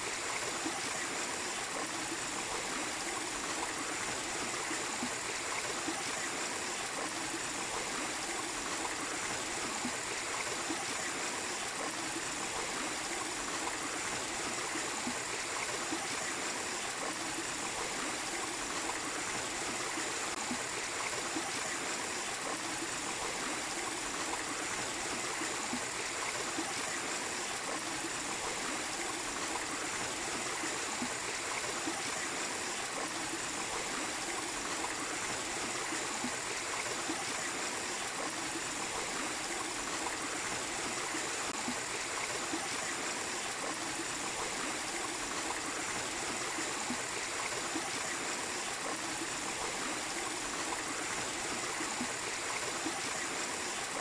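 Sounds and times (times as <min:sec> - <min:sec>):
small waterfall rushing: 0:00.0 - 0:54.0.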